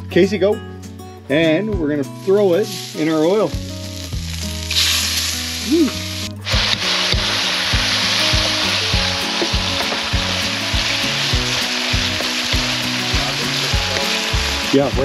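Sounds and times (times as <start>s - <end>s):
meat sizzling in oil: 2.2s - 15.0s.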